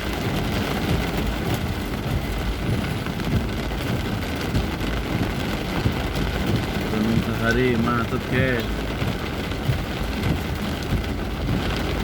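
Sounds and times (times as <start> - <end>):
heavy rain patter: 0.0 - 12.0
vehicle engines rumbling: 0.0 - 12.0.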